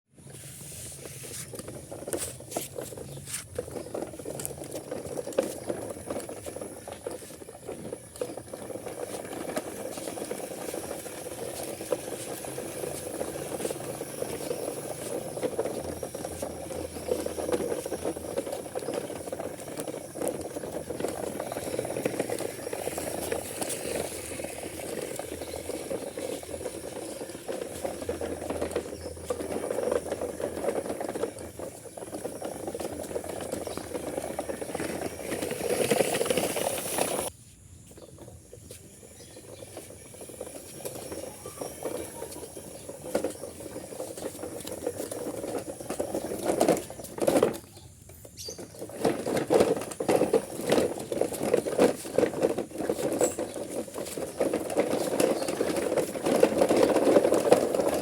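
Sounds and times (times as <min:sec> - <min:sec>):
toy truck rattling and scraping: 0:00.2 - 0:58.0.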